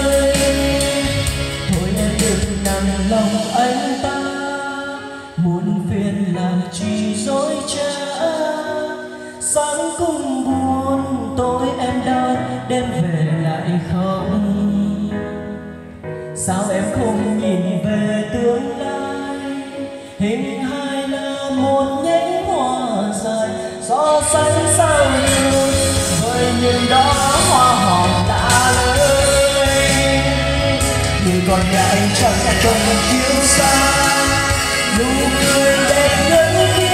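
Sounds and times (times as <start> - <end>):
karaoke song with singing: 0.0 - 36.9.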